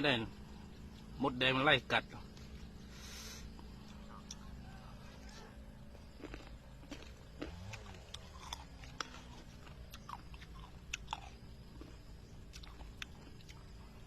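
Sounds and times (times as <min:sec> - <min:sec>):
mango chewing with crisp crunches: 0:00.1 - 0:14.0.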